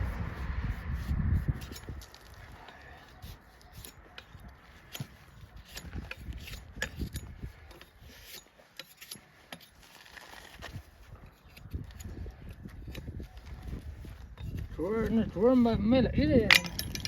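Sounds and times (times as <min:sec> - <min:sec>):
hand tools clicking and scraping hoof: 0:00.0 - 0:17.0.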